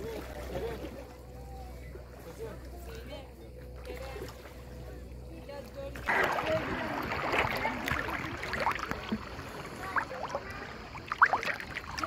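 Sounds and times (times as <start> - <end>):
sea water splashing: 0.0 - 12.0.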